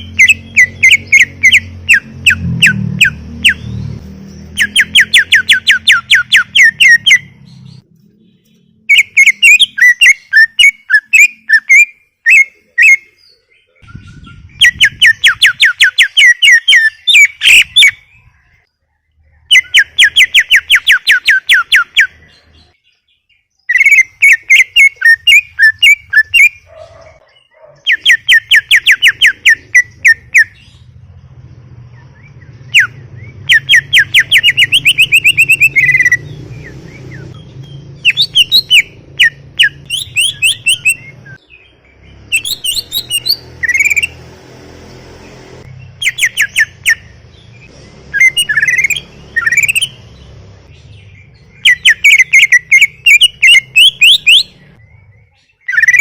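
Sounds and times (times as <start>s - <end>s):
bird singing whistled notes: 0.0s - 31.0s, 31.8s - 44.2s, 45.6s - 56.0s.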